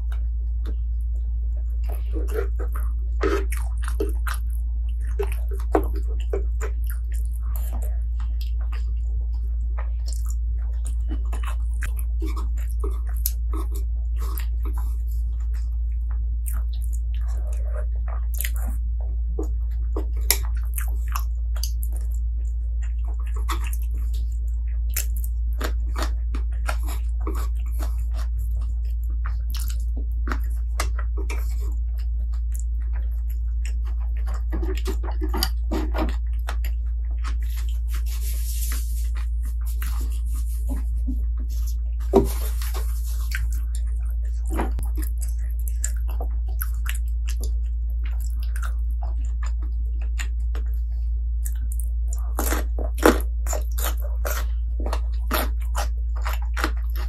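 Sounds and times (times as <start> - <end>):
chewing and biting: 0.0 - 57.0
low hum: 0.0 - 57.0.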